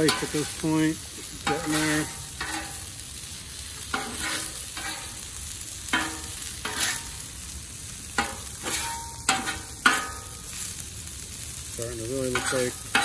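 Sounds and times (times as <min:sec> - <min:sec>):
metal spatula scraping griddle: 0:00.0 - 0:07.4, 0:08.1 - 0:10.8, 0:11.9 - 0:13.0
rice sizzling: 0:00.0 - 0:13.0.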